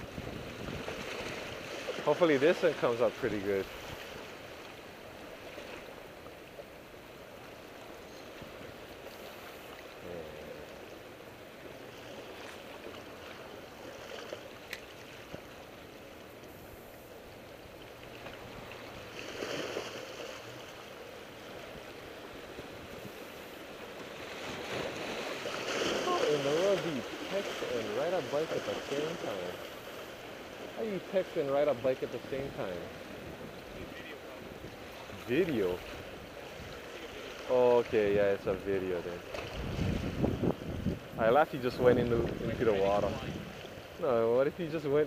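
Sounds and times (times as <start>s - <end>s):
sea water washing: 0.0s - 45.0s
wind: 0.0s - 45.0s.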